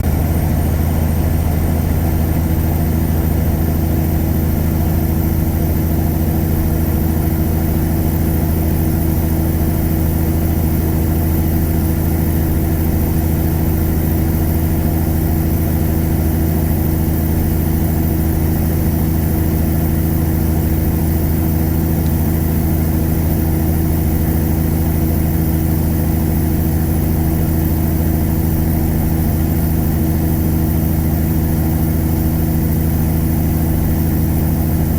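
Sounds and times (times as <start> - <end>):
diesel truck engine drone: 0.0 - 34.9.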